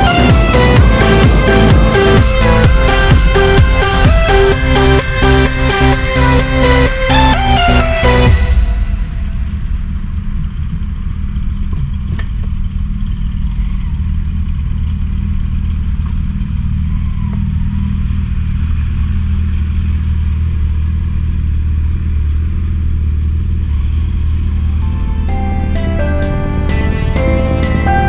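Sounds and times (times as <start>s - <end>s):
motorcycle engine droning: 0.0s - 28.0s.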